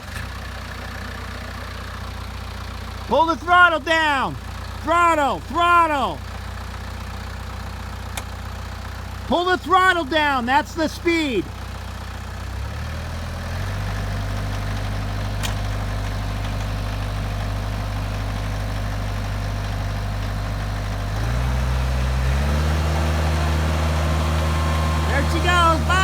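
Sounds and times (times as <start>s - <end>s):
tractor engine revving: 2.5s - 6.8s, 7.5s - 26.0s.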